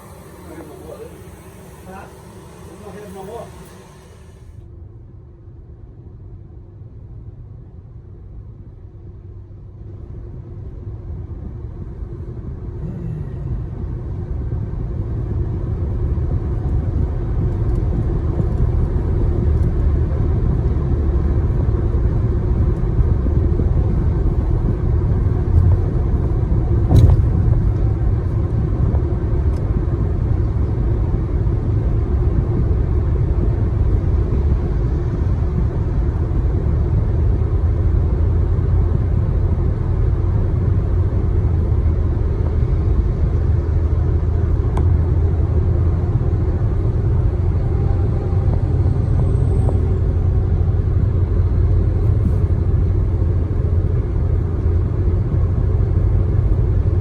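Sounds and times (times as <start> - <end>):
vehicle rumble: 0.0 - 4.6, 9.3 - 57.0.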